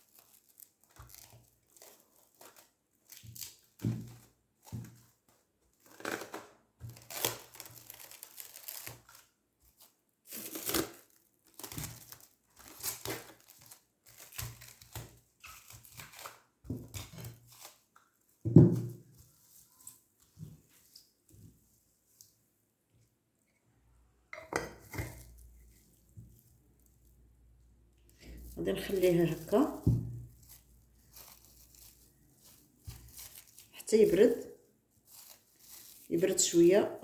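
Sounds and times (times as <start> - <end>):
crinkling and rustling: 0.0 - 23.1, 24.4 - 37.0.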